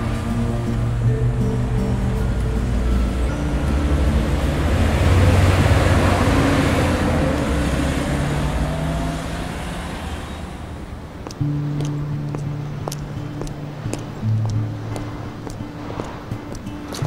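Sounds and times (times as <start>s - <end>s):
bus engine rumble: 0.0s - 17.0s
low steady tone: 0.0s - 17.0s
street traffic: 0.0s - 17.0s.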